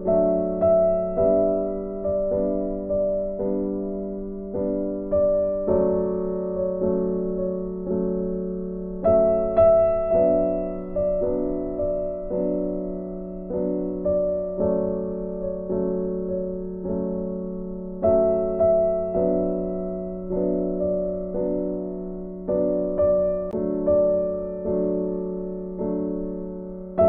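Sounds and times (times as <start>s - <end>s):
slow gentle piano music: 0.0s - 27.0s.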